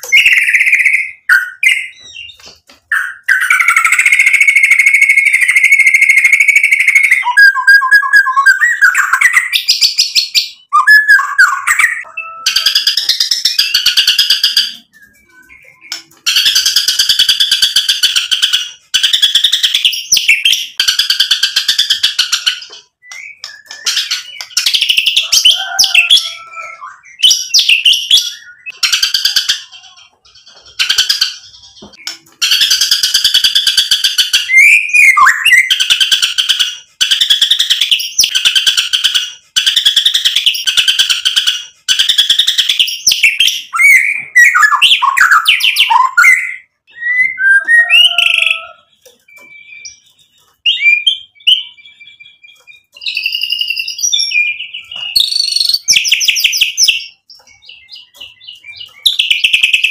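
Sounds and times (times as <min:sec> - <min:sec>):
songbird singing rattles and whistles: 0:00.0 - 0:59.9.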